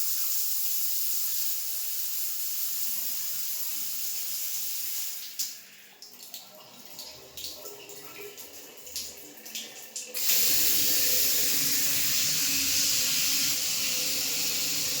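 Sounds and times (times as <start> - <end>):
tap water running into basin: 0.0 - 15.0.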